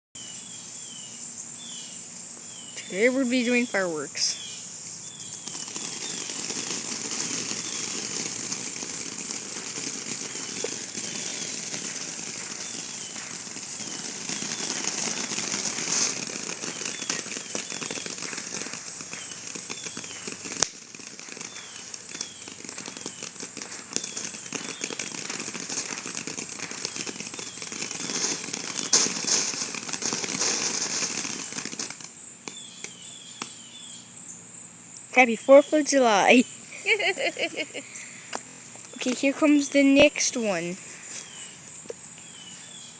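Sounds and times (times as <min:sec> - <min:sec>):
crickets chirping: 0:00.2 - 0:42.9
firework fountain crackling: 0:00.8 - 0:33.7, 0:35.2 - 0:42.9.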